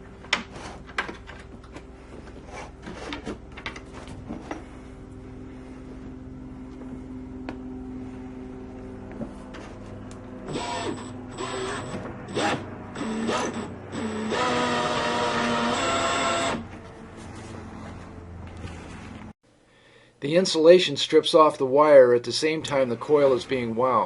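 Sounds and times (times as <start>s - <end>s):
faint steady hum: 0.0s - 17.2s, 18.2s - 24.0s
coil winder motor whine: 0.0s - 19.3s.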